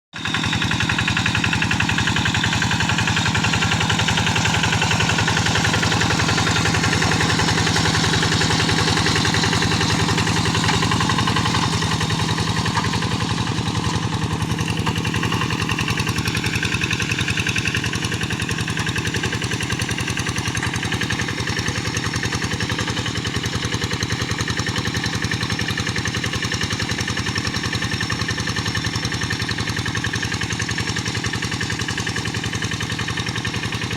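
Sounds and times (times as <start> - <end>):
diesel engine chugging: 0.1 - 33.9.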